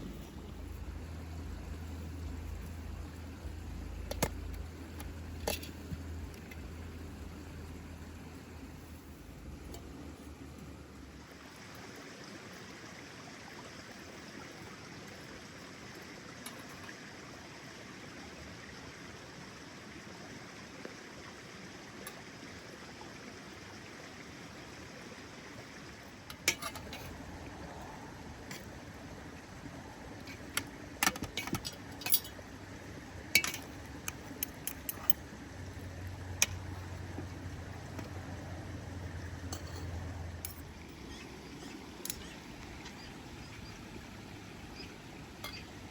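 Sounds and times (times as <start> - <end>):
steady background hiss: 0.0 - 45.9.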